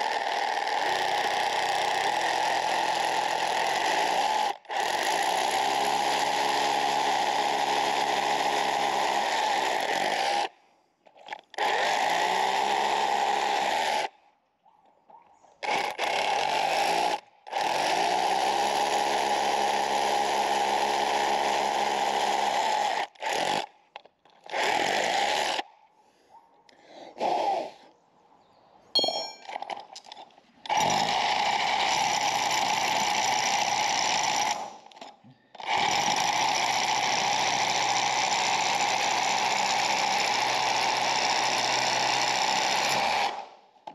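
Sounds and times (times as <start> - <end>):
rotary hammer drilling into masonry: 0.0 - 10.5, 11.2 - 14.1, 15.6 - 25.6, 29.4 - 43.9.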